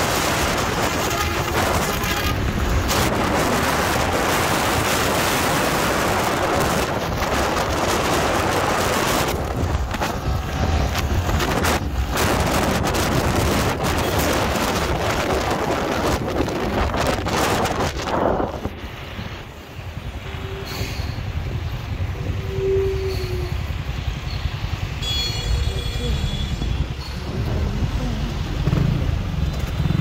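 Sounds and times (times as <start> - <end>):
heavy wind on microphone: 0.0 - 30.0
vehicle road and engine noise: 0.0 - 30.0.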